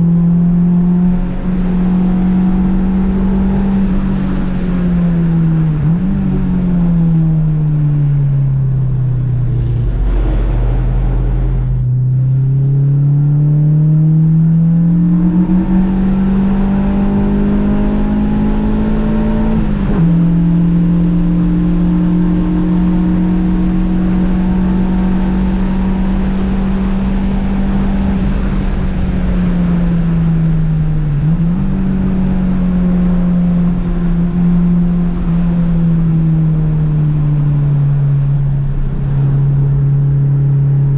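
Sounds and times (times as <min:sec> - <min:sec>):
car engine revving: 0:07.6 - 0:40.9.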